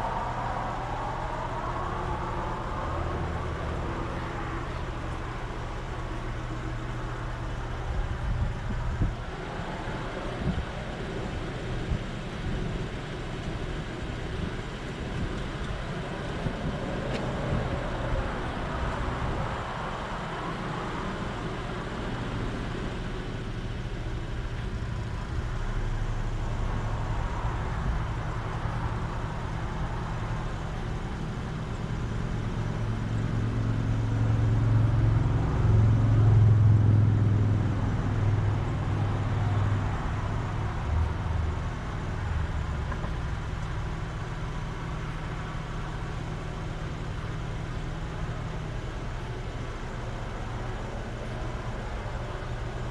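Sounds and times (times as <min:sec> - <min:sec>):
car engine idling: 0:00.0 - 0:52.9
low engine drone: 0:00.0 - 0:52.9.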